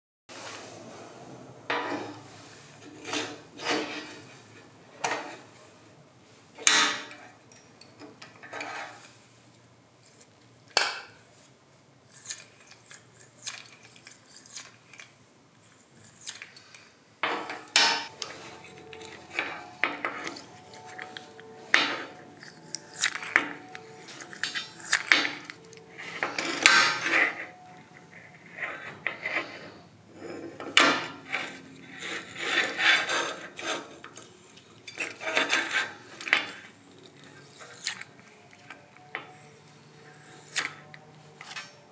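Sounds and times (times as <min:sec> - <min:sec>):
quiet metal scraping: 0:00.4 - 0:05.8, 0:08.0 - 0:10.3, 0:16.0 - 0:41.9.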